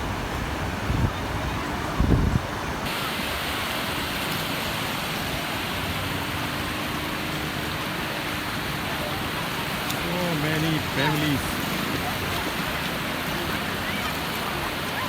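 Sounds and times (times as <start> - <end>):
sea surf rushing: 0.0 - 15.0
wind: 0.0 - 15.0.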